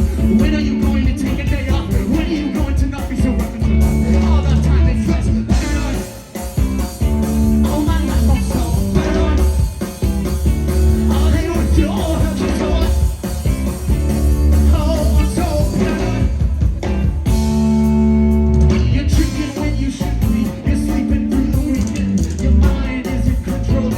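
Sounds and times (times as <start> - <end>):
bass guitar: 0.0 - 23.9
drums: 0.0 - 23.9
electric guitar: 0.0 - 23.9.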